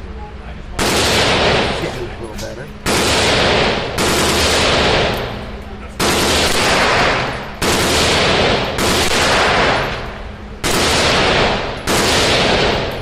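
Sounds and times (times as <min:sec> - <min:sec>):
gunshots echoing indoors: 0:00.8 - 0:13.0.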